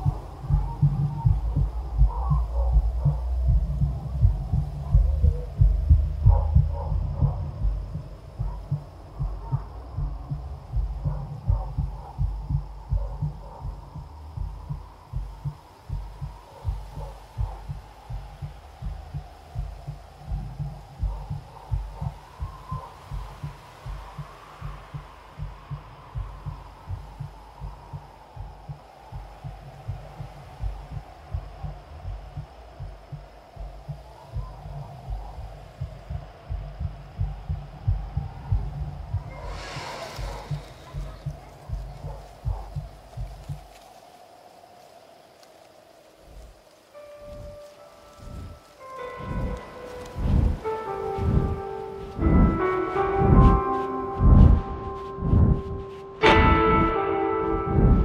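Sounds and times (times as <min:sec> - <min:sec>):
low rhythmic thumping: 0:00.0 - 0:44.0, 0:46.2 - 0:58.0.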